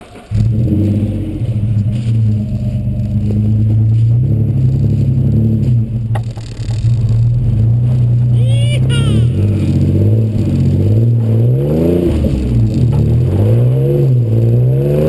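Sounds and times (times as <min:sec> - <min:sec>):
car exhaust low note: 0:00.1 - 0:15.0.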